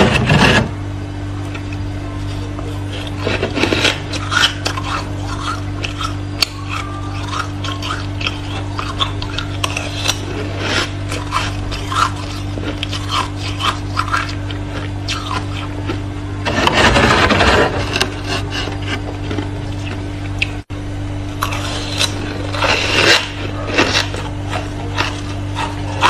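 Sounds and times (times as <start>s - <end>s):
freezer frost crunching and scraping: 0.0s - 0.8s, 1.5s - 20.6s, 21.3s - 26.0s
steady low hum: 0.0s - 26.0s.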